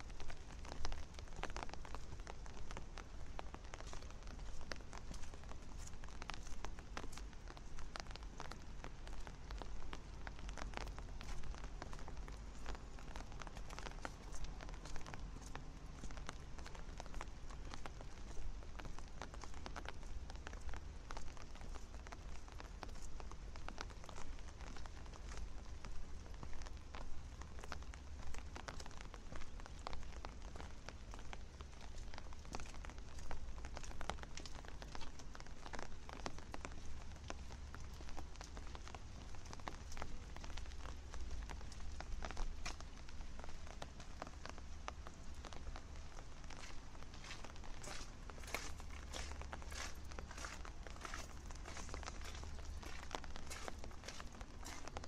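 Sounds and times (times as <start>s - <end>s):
rain spattering on hard surfaces: 0.0s - 55.0s.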